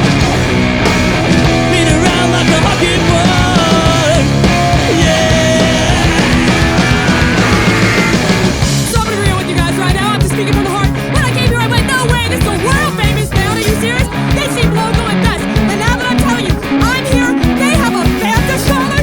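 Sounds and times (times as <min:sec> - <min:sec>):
punk rock band playing live: 0:00.0 - 0:19.0
rapid drumming: 0:00.0 - 0:19.0
wavering lead guitar line: 0:00.0 - 0:19.0.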